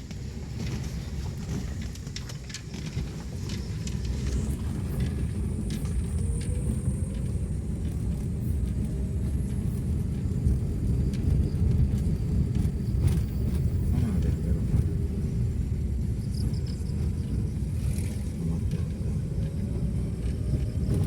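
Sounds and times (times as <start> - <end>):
engine and road noise rumble: 0.0 - 21.0.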